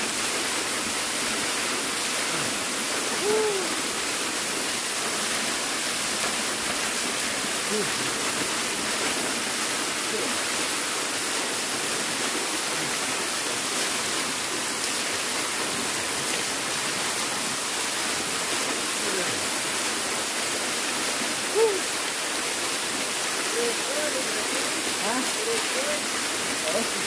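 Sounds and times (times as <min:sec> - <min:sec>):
waterfall splashing into pool: 0:00.0 - 0:27.0.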